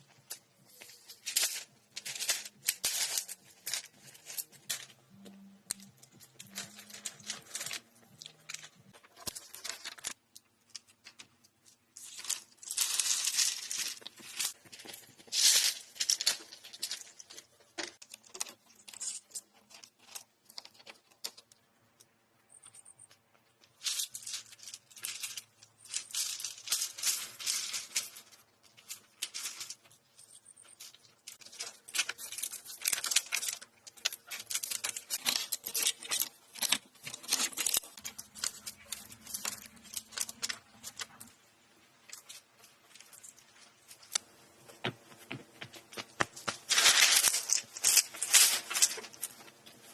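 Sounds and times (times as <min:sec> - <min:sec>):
dry leaves and twigs rustling: 0:00.0 - 0:21.6, 0:23.4 - 0:49.9.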